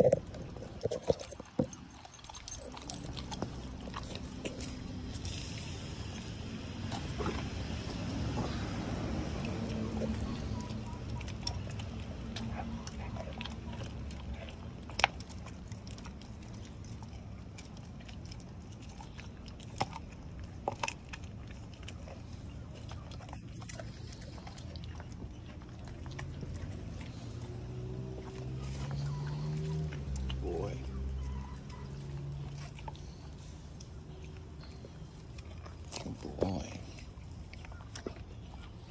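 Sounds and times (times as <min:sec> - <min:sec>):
dog chewing meat: 0:00.0 - 0:38.9.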